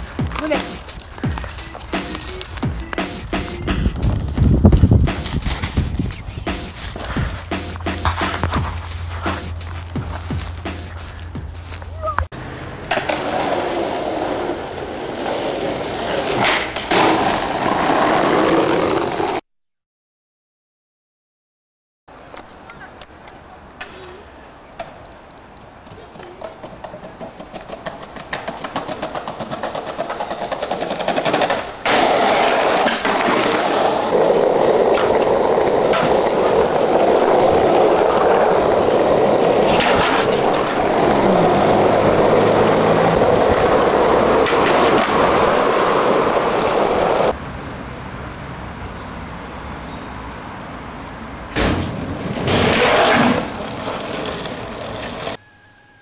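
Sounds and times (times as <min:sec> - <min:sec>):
skateboard scraping: 0:00.0 - 0:19.4, 0:25.7 - 0:47.4, 0:51.6 - 0:55.4
skateboard wheels rolling on asphalt: 0:00.0 - 0:19.4, 0:22.1 - 0:55.6.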